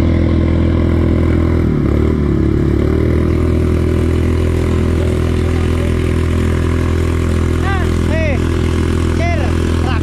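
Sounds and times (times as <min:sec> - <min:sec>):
pump engine running: 0:00.0 - 0:10.0
water jet from hose: 0:00.0 - 0:10.0.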